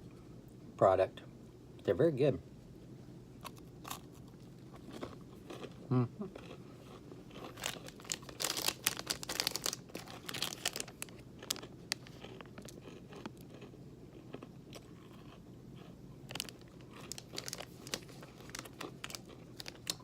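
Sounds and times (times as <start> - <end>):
crunching granola bar: 3.4 - 20.0.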